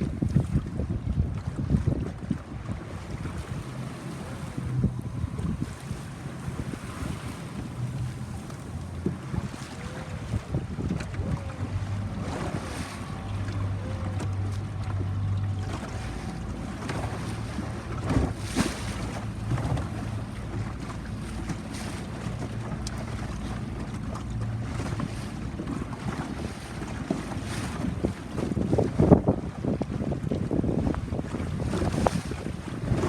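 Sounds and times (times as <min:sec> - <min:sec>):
boat engine running: 0:00.0 - 0:33.0
sea water washing: 0:00.0 - 0:33.0
wind buffeting microphone: 0:00.0 - 0:33.0.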